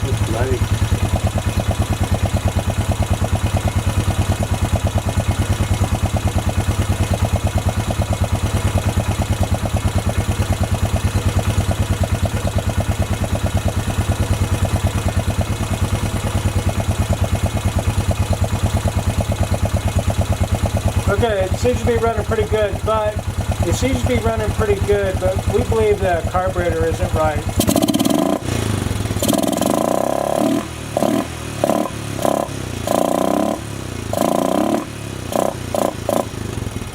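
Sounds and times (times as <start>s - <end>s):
single-cylinder engine idling: 0.0s - 36.9s.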